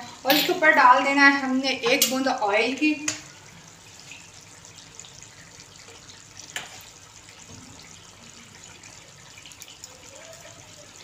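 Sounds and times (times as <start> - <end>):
gravy sizzling: 0.0 - 11.0.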